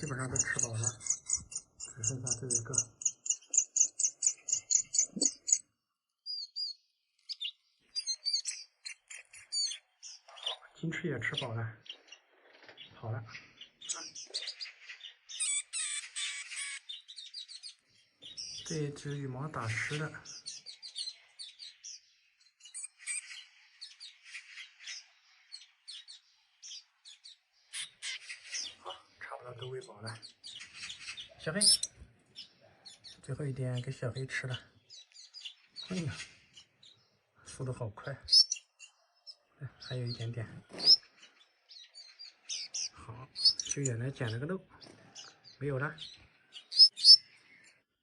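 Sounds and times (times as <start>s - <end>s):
young birds begging chirps: 0.0s - 48.0s.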